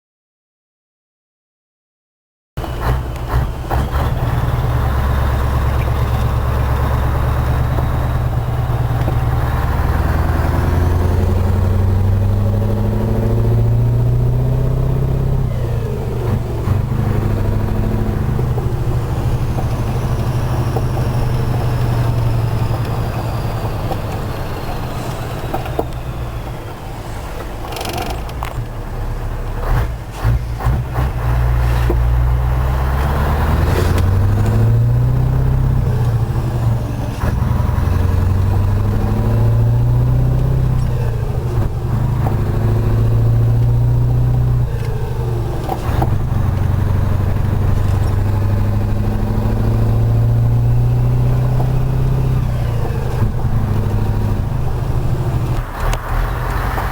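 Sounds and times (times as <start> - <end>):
diesel truck engine under load: 2.6 - 56.9.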